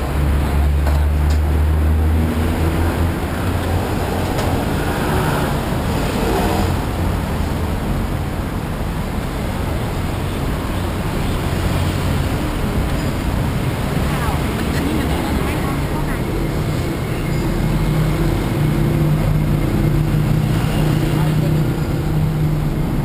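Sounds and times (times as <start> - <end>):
low engine drone: 0.0 - 23.0
street traffic rumble: 0.0 - 23.0.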